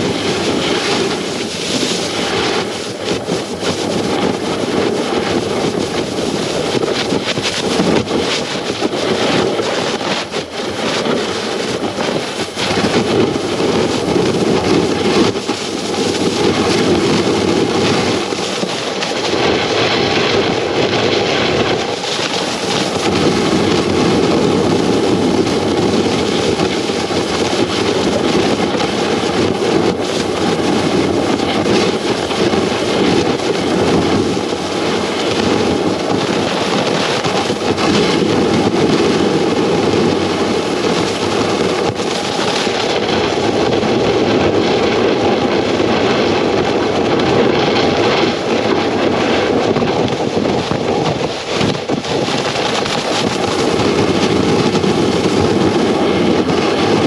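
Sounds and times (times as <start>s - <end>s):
snowboard scraping over snow: 0.0s - 57.0s
wind: 0.0s - 57.0s.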